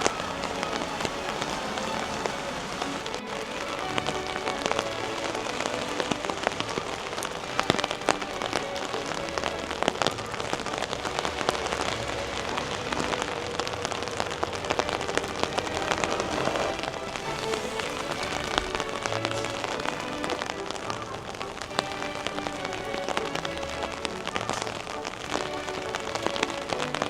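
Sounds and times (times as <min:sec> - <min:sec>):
raindrops hitting an umbrella: 0:00.0 - 0:27.0
steady rain falling: 0:00.0 - 0:27.0.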